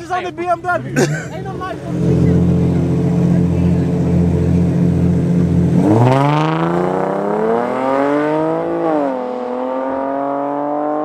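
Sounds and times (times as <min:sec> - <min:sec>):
car engine revving hard: 0:01.1 - 0:11.0.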